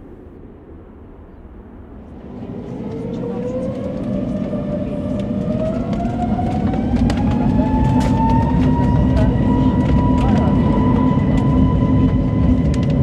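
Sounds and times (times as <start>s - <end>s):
low rumble: 0.0s - 13.0s
jet engines spooling up: 1.8s - 13.0s.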